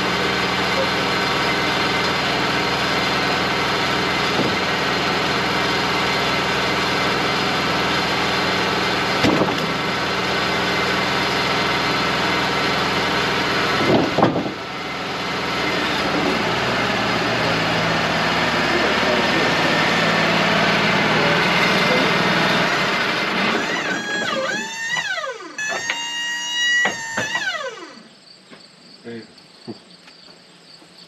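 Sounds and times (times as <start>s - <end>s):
sawmill engine running: 0.0s - 28.1s.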